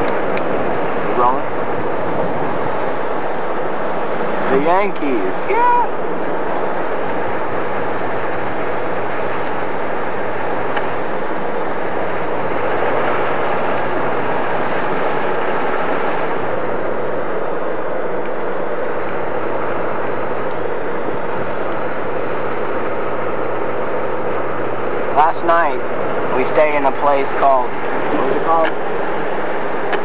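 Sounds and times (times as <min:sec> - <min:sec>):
car engine hum: 0:00.0 - 0:30.0.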